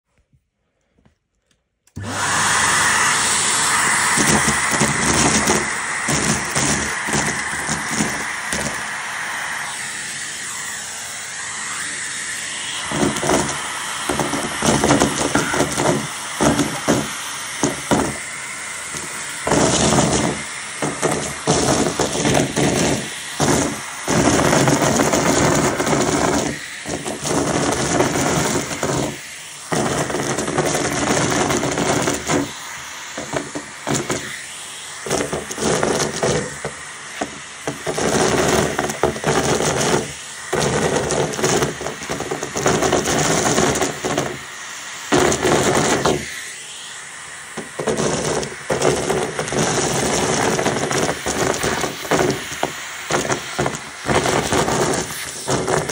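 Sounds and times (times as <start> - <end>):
vacuum cleaner motor whine: 1.9 - 55.9.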